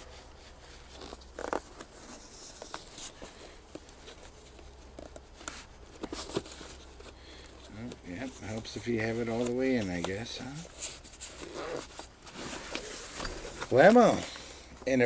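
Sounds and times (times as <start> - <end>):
gear rustling in bag: 0.0 - 14.7.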